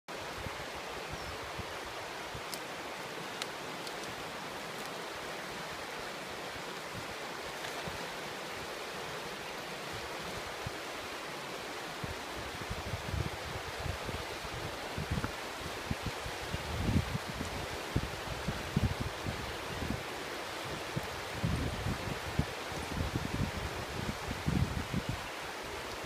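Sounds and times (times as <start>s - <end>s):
river rapids rushing over rocks: 0.1s - 26.0s.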